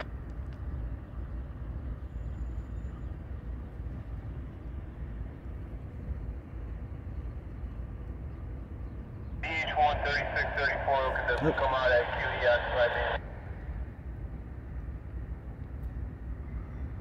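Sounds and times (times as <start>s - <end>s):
diesel locomotives idling: 0.0s - 15.6s.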